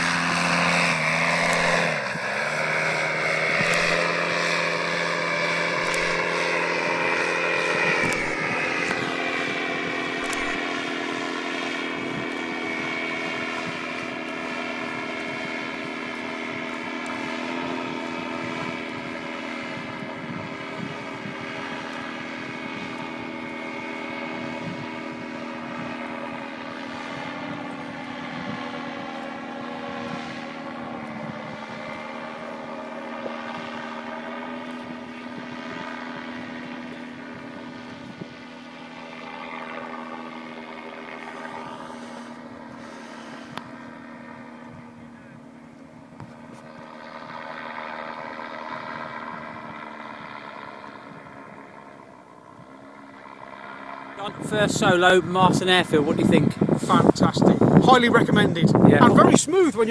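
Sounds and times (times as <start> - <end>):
paramotor engine droning overhead: 0.0 - 59.9.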